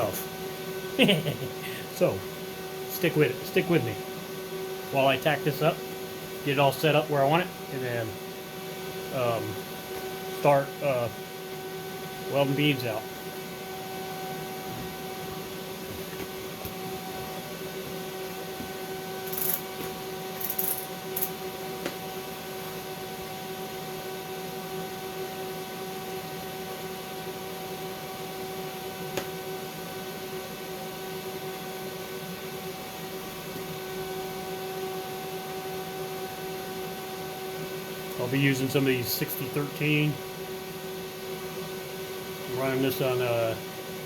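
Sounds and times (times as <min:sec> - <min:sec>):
steady electrical hum: 0:00.0 - 0:44.0.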